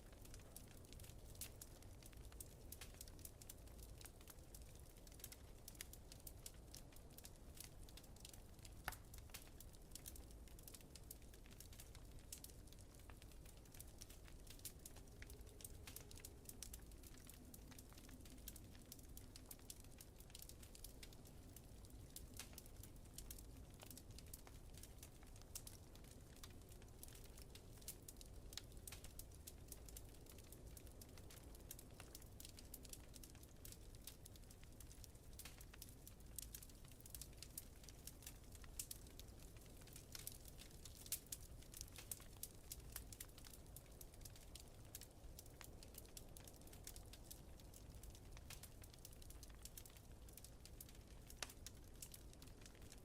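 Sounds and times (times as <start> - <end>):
fire crackling and popping: 0.0 - 53.0.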